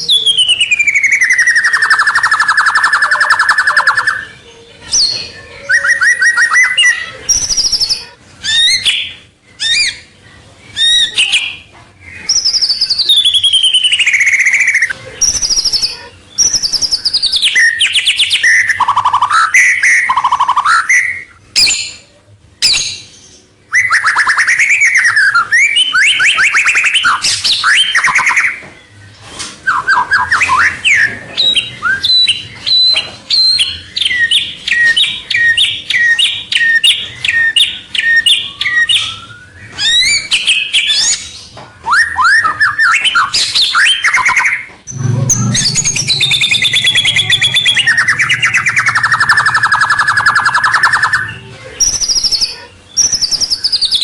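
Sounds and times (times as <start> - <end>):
songbird singing trills and whistles: 0.0 - 54.0.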